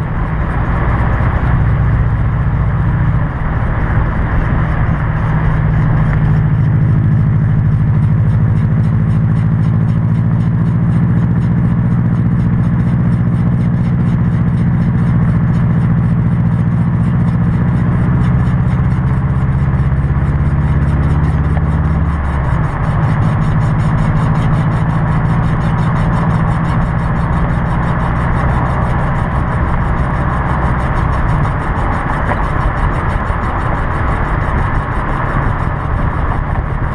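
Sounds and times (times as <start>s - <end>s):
car driving low drone: 0.0s - 36.9s
wheel grinding and scraping: 0.0s - 36.9s.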